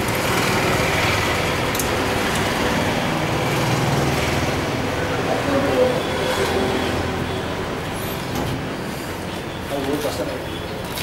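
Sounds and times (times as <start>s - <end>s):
vehicle engines humming: 0.0s - 9.8s
road traffic noise: 0.0s - 11.0s.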